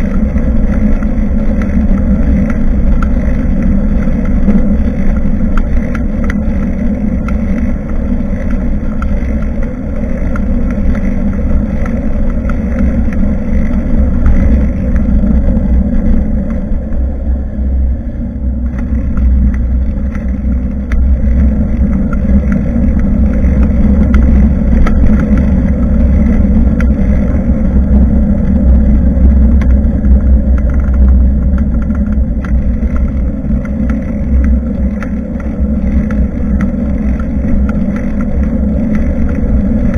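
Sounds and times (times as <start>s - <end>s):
bike clicks and rattles: 0.0s - 16.8s, 18.6s - 39.9s
wind buffeting microphone: 0.0s - 39.9s.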